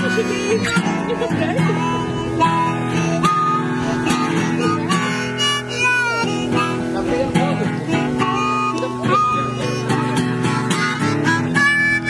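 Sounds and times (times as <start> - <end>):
acoustic guitar strummed: 0.0 - 12.0
harmonica playing bent notes: 0.0 - 12.0.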